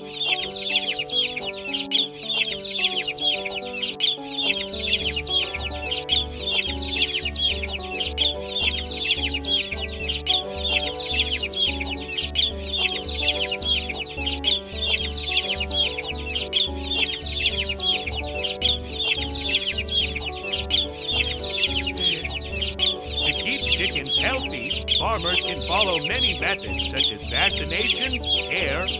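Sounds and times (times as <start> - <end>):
background music with steady beat: 0.0 - 28.9
chicks peeping: 0.0 - 28.9.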